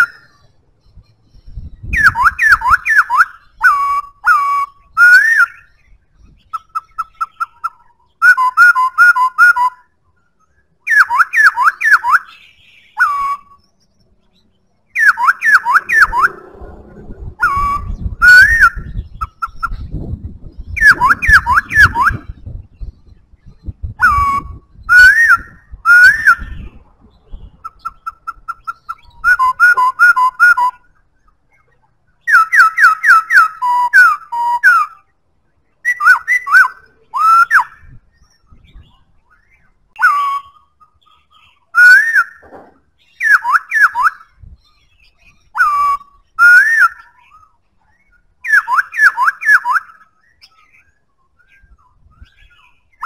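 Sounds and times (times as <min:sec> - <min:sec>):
bird whistling song: 0:00.0 - 0:53.0.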